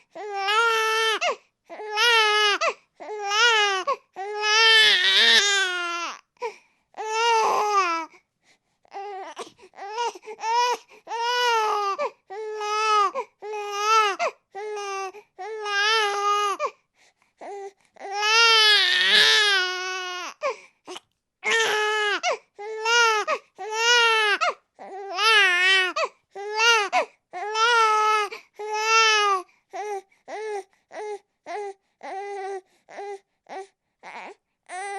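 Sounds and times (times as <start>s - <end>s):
infant crying: 0.0s - 8.1s, 8.9s - 16.8s, 17.4s - 34.9s.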